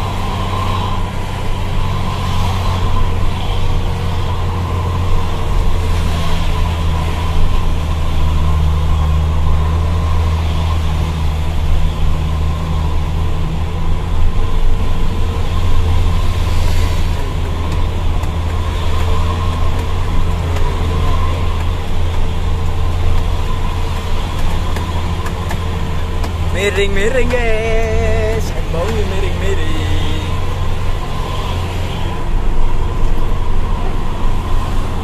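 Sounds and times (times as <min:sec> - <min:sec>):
diesel truck engine droning: 0:00.0 - 0:35.0
road noise: 0:00.0 - 0:35.0.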